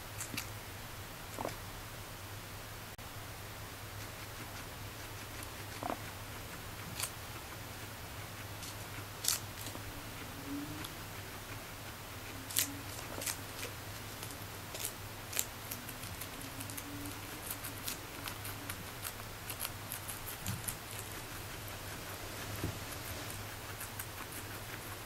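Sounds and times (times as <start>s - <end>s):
guinea pig chewing lettuce: 0.0s - 0.6s, 1.2s - 1.7s, 3.6s - 25.0s
low steady hum: 0.0s - 25.0s.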